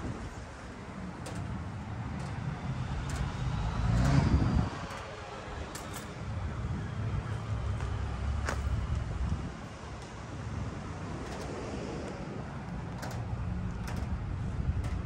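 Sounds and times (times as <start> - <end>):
low traffic rumble: 0.0 - 15.0
wind buffeting microphone: 0.0 - 15.0.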